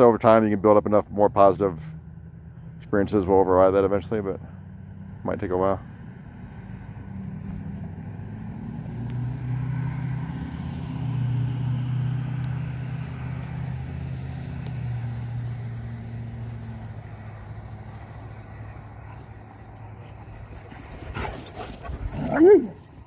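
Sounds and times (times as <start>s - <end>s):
vehicle engine hum: 0.0s - 23.0s.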